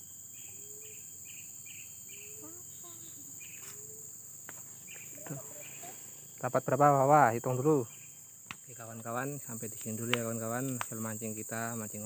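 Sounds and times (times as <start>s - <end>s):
high-pitched insect chorus: 0.0s - 12.0s
short insect chirp: 0.0s - 12.0s.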